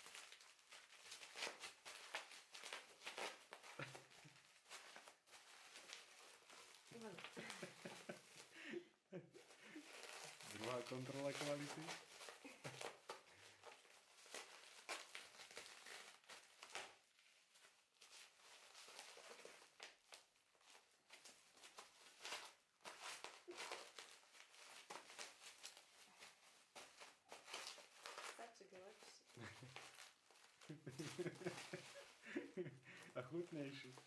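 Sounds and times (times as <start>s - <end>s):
plastic bag crinkling: 0.0s - 8.7s, 9.4s - 34.0s.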